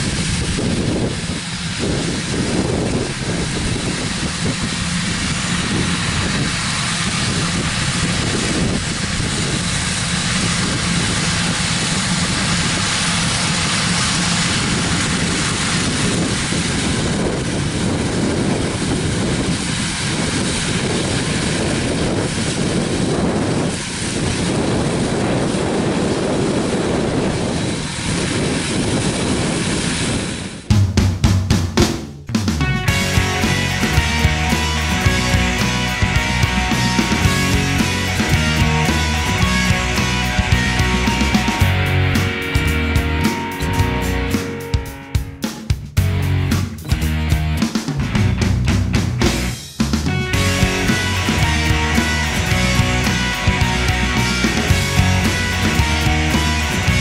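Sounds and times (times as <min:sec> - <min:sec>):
farm machinery drone: 0:00.0 - 0:30.7, 0:32.3 - 0:57.0.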